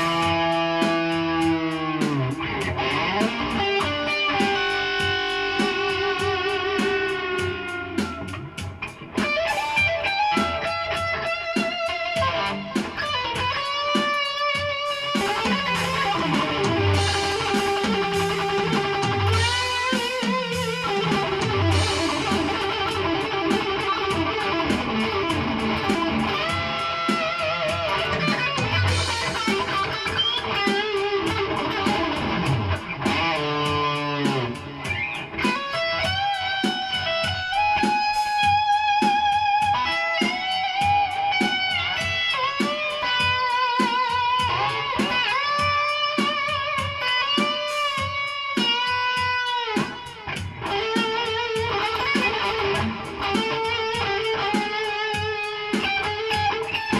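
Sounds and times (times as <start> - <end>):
distorted electric guitar lead: 0.0 - 56.9.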